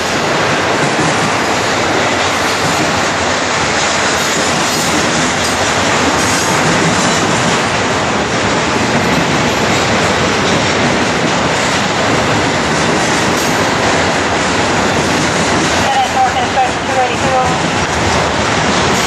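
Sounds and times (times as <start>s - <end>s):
freight train wheels on rails: 0.0s - 19.0s.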